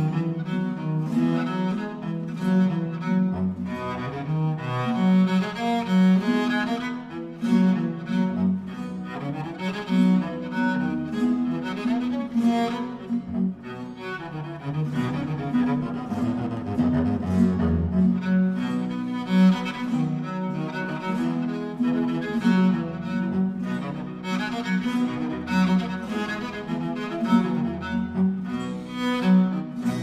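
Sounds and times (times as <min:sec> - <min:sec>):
orchestral strings: 0:00.0 - 0:30.0
solo cello bowed notes: 0:00.0 - 0:30.0.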